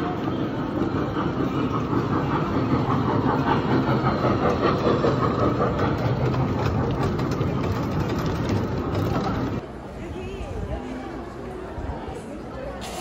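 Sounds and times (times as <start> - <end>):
road train motor humming: 0.0 - 13.0.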